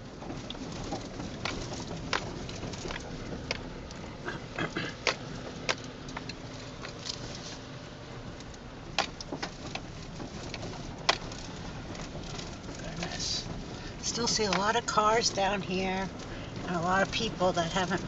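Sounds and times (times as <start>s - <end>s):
car road rumble from inside: 0.0s - 18.0s.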